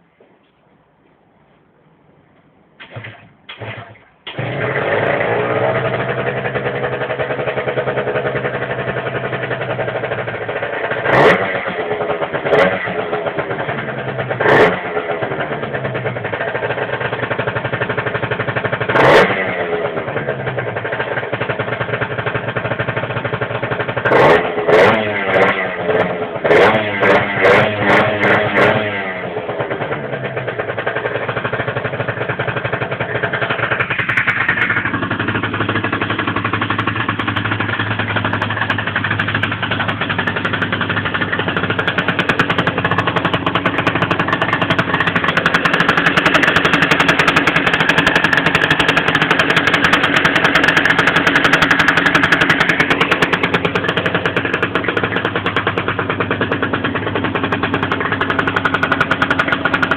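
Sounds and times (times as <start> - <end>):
scooter engine idling: 2.7 - 59.9.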